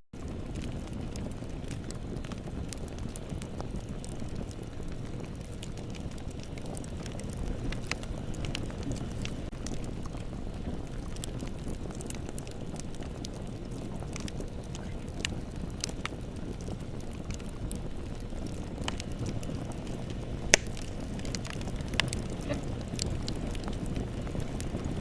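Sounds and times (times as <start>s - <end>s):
fire crackles and pops: 0.2s - 25.0s
roar of bonfire flames: 0.2s - 25.0s.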